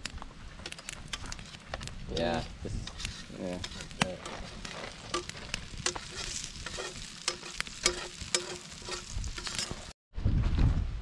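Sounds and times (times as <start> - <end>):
fat crackling and popping: 0.0 - 10.0
egg sizzling in a skillet: 0.8 - 10.0.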